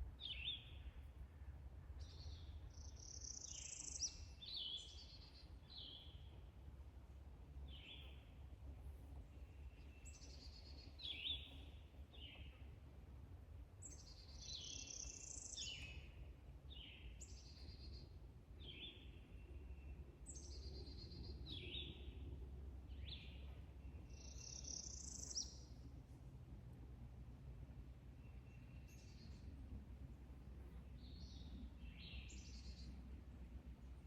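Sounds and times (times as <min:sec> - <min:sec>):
songbird singing: 0:00.0 - 0:01.2, 0:01.8 - 0:06.7, 0:07.5 - 0:13.0, 0:13.8 - 0:26.0, 0:27.6 - 0:34.0
low background rumble: 0:00.0 - 0:34.0.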